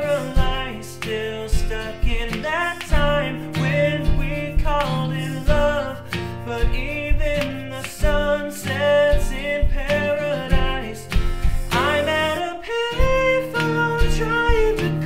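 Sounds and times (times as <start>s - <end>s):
acoustic guitar: 0.0s - 15.0s
percussion tapped on plastic containers: 0.0s - 15.0s
sung vocal harmonies: 0.0s - 15.0s.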